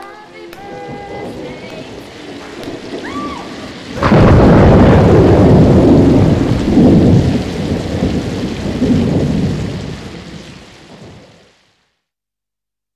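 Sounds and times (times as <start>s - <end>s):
steady rain: 0.0s - 12.1s
rolling thunder rumble: 0.6s - 11.6s
thunderclap: 0.6s - 11.6s.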